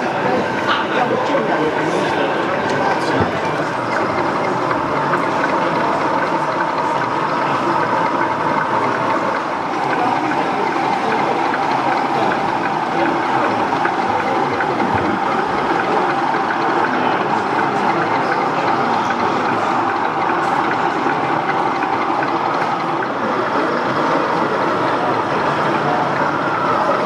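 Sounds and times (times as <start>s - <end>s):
model trains running: 0.0s - 27.0s.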